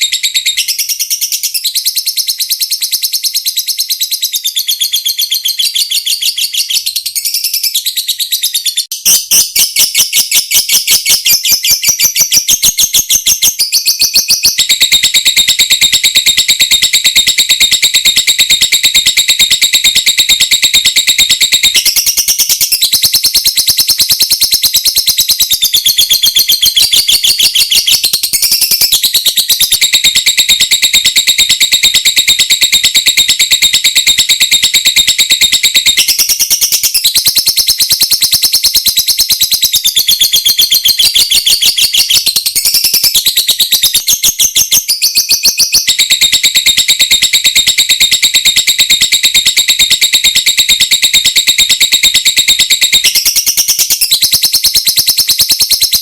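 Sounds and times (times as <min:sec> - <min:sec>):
lovebird chattering trill: 0:00.0 - 0:56.0.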